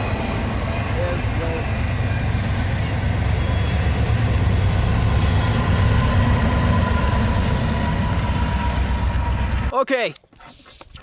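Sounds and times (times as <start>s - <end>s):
train wheels rumbling on rail: 0.0s - 9.7s.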